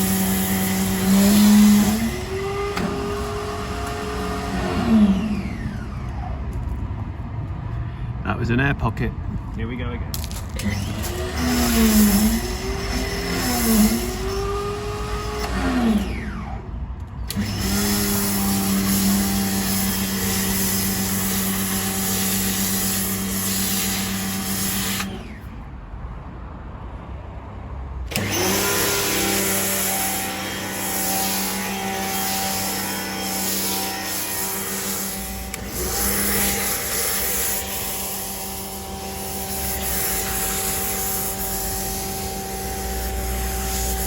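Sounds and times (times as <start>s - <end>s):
pressure washer motor and pump: 0.0s - 6.8s, 10.2s - 25.7s, 28.0s - 44.0s.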